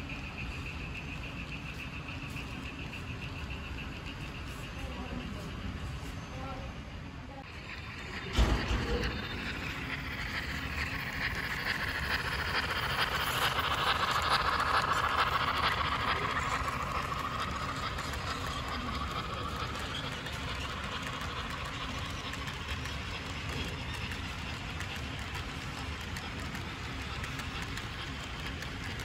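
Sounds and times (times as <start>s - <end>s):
model train rolling on track: 0.0s - 29.0s.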